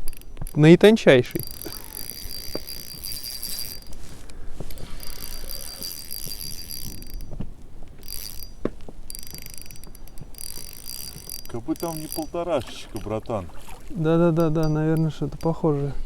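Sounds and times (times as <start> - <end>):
fishing reel drag buzzing: 0.0 - 16.0.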